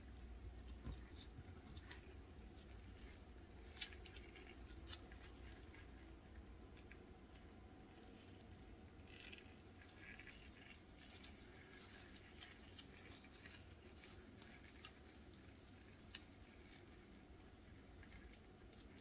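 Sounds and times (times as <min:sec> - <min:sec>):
soft rustling: 0:00.0 - 0:19.0.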